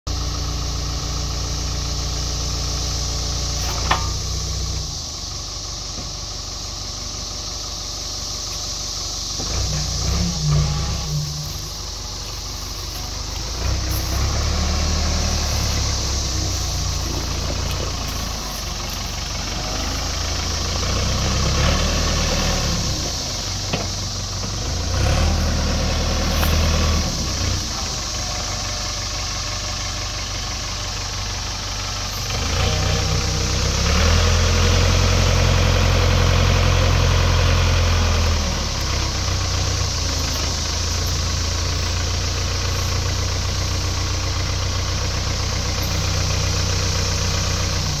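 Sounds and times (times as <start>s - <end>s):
diesel engine revving: 0.1s - 48.0s.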